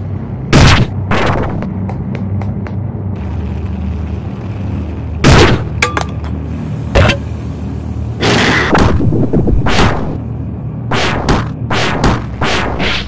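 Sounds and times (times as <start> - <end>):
low engine-like drone: 0.0 - 13.0.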